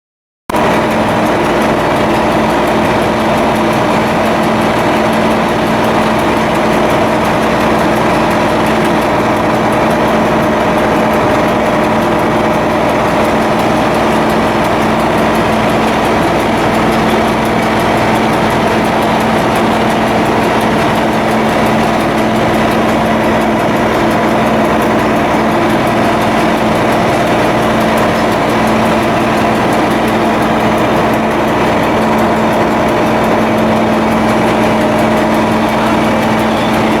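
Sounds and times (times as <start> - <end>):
ship diesel engine humming: 0.5 - 37.0.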